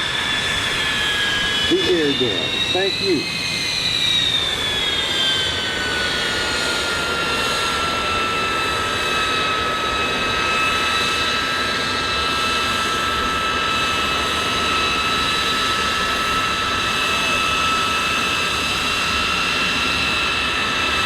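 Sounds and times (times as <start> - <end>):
jet engine whining: 0.0 - 21.0.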